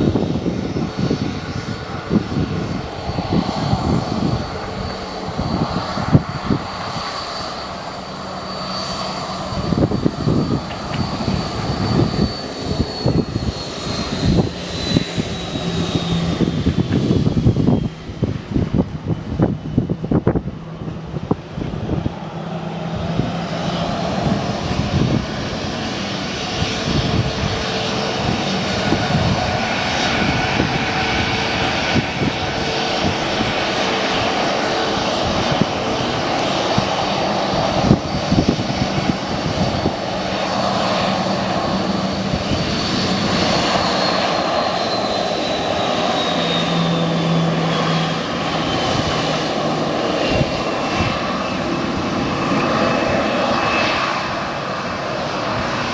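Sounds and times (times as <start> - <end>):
jet engines at taxi power: 0.0 - 55.9.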